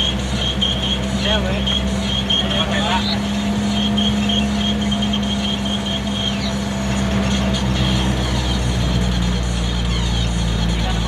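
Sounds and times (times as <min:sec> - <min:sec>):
pickup engine running: 0:00.0 - 0:11.0.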